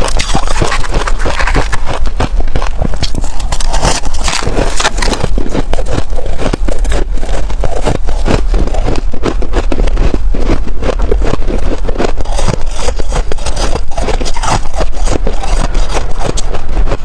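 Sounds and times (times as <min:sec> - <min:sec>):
chewing frost crunching: 0:00.0 - 0:17.0.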